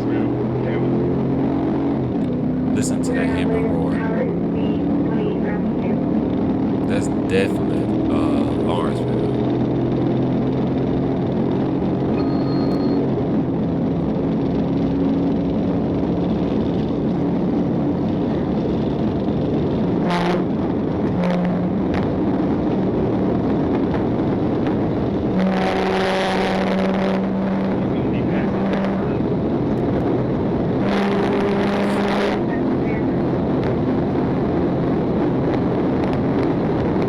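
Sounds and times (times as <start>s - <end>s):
car engine at highway speed: 0.0s - 37.0s
road and wind noise: 0.0s - 37.0s.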